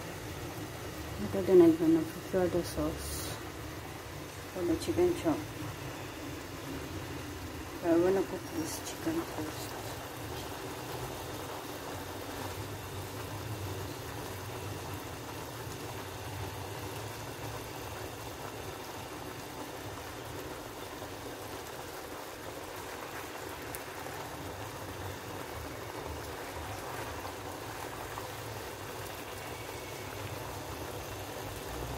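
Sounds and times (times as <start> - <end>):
chicken sizzling in a pan: 0.0 - 31.9.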